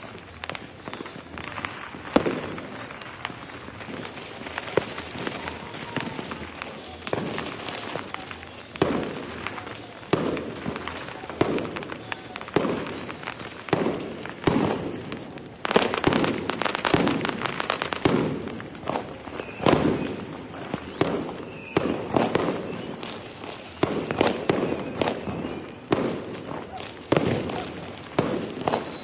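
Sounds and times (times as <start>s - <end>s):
fireworks bangs and pops: 0.0s - 29.0s
fireworks rapid crackling: 0.0s - 29.0s.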